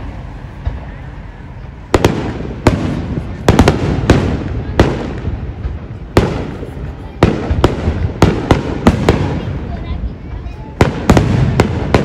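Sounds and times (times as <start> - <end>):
fireworks bangs: 0.0 - 12.0
rumbling echo: 0.0 - 12.0.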